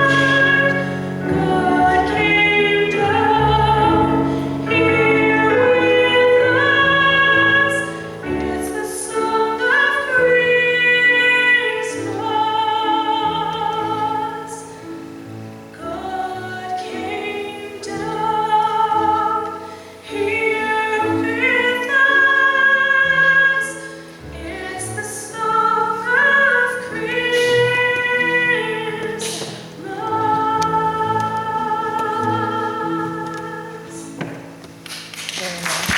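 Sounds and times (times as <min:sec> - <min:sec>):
woman singing operatically: 0:00.0 - 0:14.7, 0:15.8 - 0:34.1.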